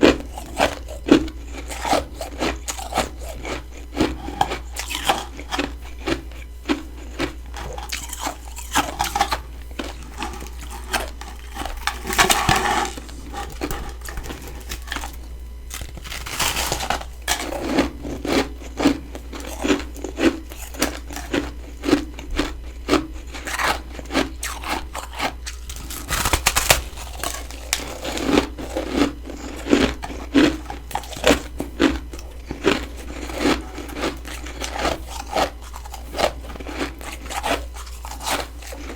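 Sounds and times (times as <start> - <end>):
chewing crunchy frost: 0.0 - 38.9.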